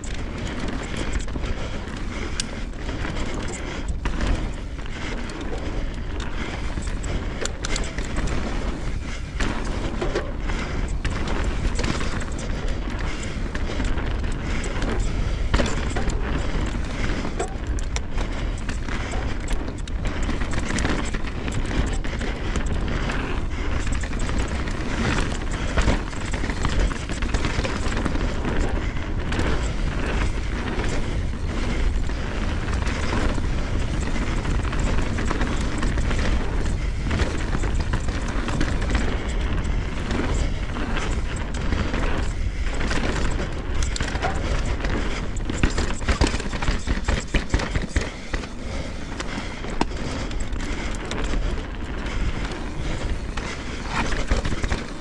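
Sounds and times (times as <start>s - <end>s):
bike knocking and rattling: 0.0s - 55.0s
bike tyre noise: 0.0s - 55.0s.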